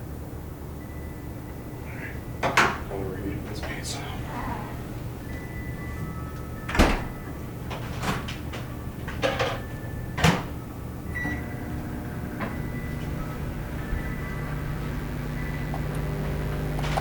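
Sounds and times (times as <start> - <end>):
microwave hum: 0.0 - 17.0.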